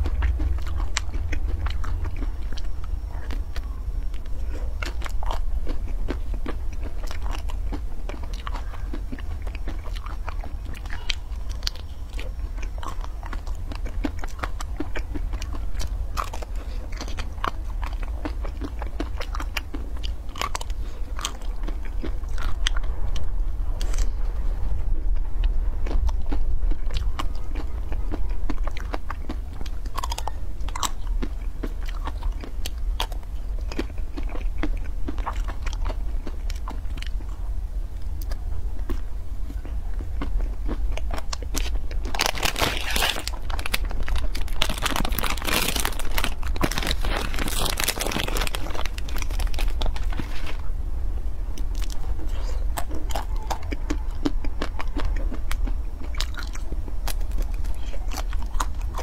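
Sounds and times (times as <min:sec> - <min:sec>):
chewing and crunching ice cream: 0:00.0 - 0:59.0
steady low hum: 0:00.0 - 0:59.0.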